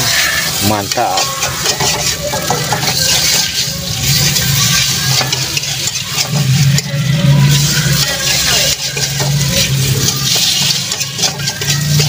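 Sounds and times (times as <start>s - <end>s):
metal spoon scraping a pan: 0.0s - 12.0s.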